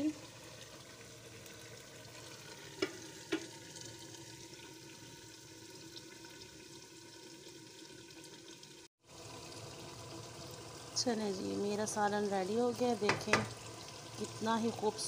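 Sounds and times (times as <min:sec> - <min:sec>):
pot simmering with sizzling hiss: 0:00.0 - 0:15.0.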